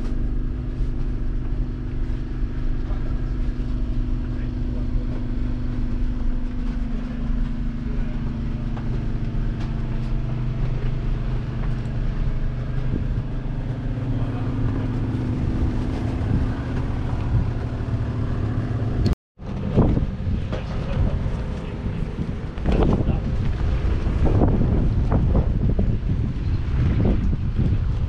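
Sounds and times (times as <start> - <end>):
diesel tractor engine hum: 0.0 - 28.0.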